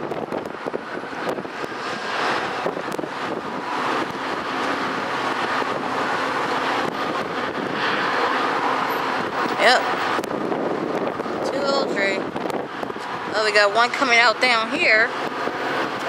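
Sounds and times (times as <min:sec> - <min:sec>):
vehicle noise: 0:00.0 - 0:16.0
wind buffeting microphone: 0:00.0 - 0:16.0.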